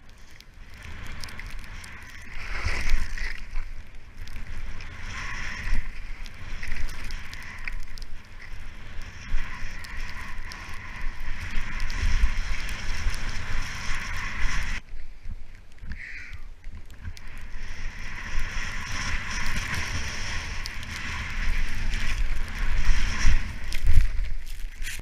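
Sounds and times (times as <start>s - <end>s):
skis carving on snow: 0.0s - 25.0s
wind buffeting microphone: 0.6s - 25.0s.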